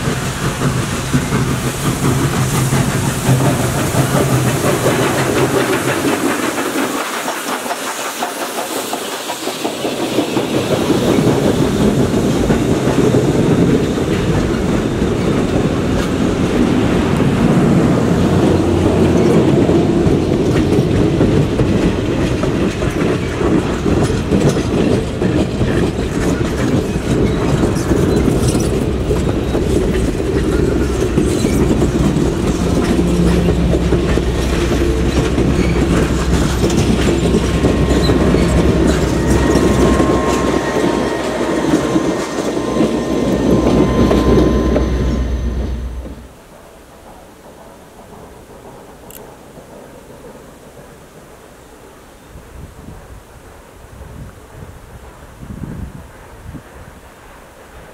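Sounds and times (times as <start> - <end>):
train wheels clacking over rail joints: 0.0 - 51.6
diesel locomotive engine drone: 0.0 - 57.9.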